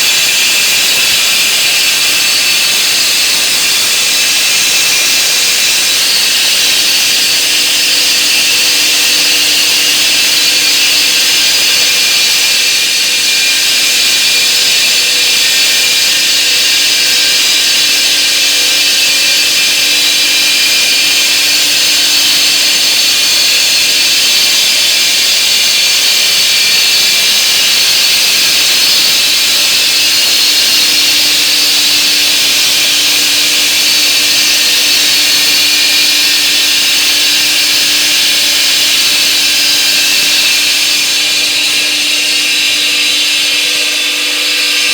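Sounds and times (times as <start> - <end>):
stone-cutting saw whine: 0.0 - 44.9.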